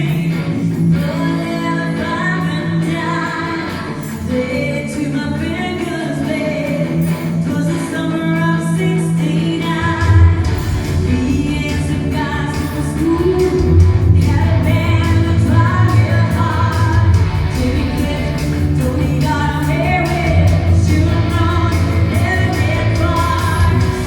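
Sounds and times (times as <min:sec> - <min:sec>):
amplified guitar and bass: 0:00.0 - 0:24.0
person singing: 0:00.0 - 0:24.0.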